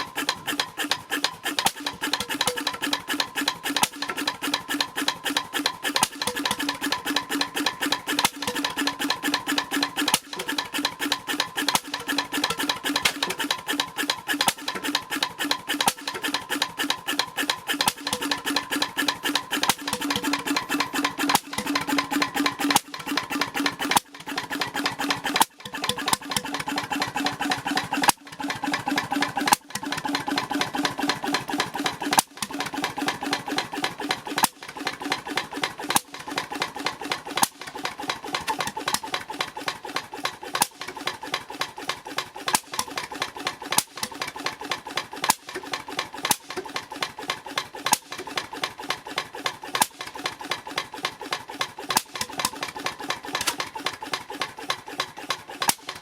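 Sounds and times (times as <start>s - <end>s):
engine clattering: 0.0s - 56.0s.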